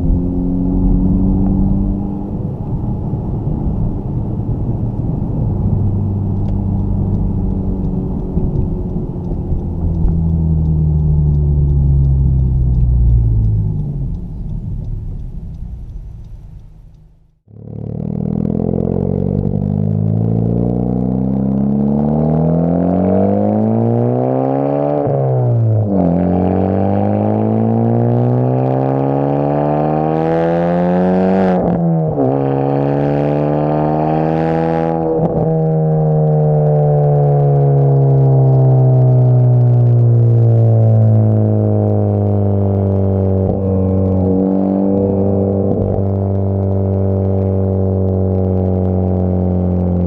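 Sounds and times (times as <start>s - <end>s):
car exhaust accelerating through gears: 0.0s - 50.0s.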